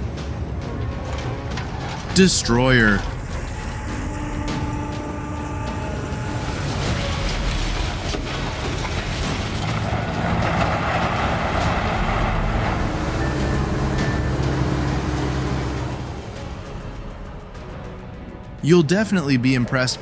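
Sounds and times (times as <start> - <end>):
heavy machine engine rumbling: 0.0 - 17.0.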